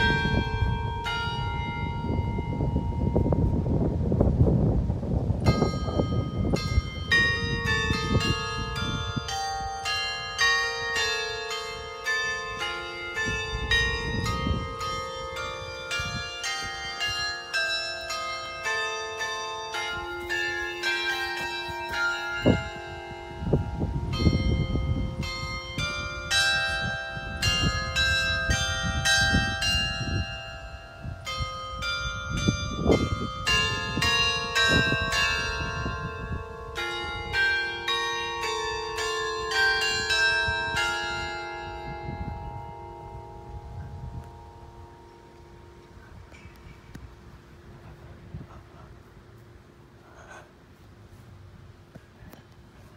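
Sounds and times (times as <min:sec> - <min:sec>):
carillon bells playing melody: 0:00.0 - 0:48.4.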